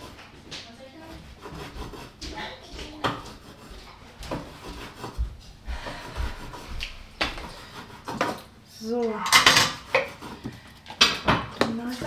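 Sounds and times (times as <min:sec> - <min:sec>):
kitchen items knocking and clicking: 0:00.0 - 0:12.0
rubbing of kitchen items: 0:00.0 - 0:12.0.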